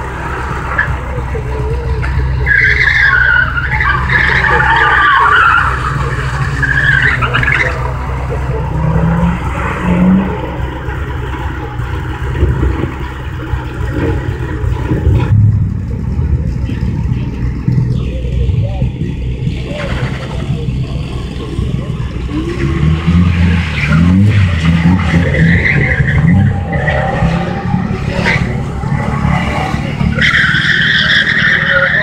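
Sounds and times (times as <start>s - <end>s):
car engine idling and revving: 0.0s - 32.0s
car tyres squealing: 0.0s - 32.0s.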